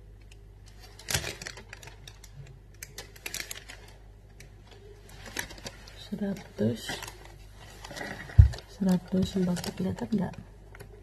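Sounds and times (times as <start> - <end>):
paper receipt crinkling: 0.6 - 11.0.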